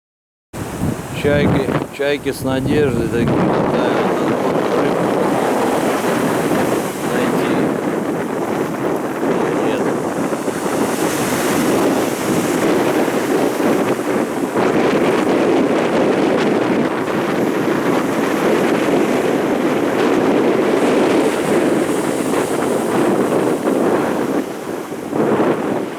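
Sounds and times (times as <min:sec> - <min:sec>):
storm surf washing: 0:00.6 - 0:25.9
wind buffeting microphone: 0:00.6 - 0:25.9.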